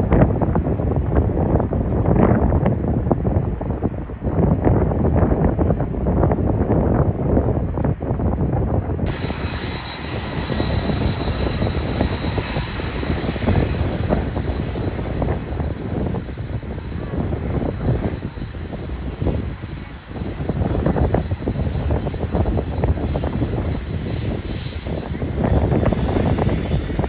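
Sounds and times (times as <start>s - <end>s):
jet engines whining: 0.0s - 27.0s
wind rumble on microphone: 0.0s - 27.0s.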